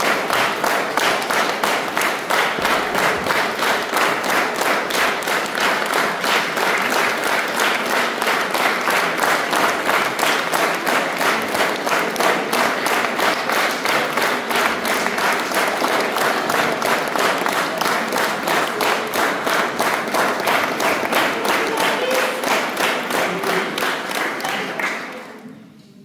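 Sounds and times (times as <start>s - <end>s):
audience clapping in unison: 0.0s - 25.5s.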